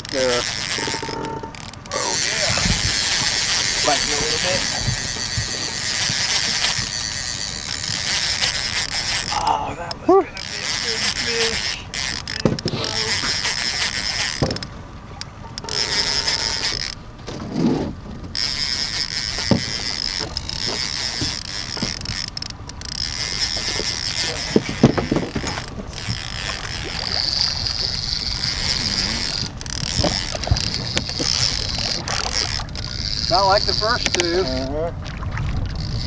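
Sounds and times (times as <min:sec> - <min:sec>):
fishing reel whirring and clicking: 0:00.0 - 0:17.1, 0:18.3 - 0:34.9, 0:35.6 - 0:36.0
waves slapping boat hull: 0:00.0 - 0:36.0.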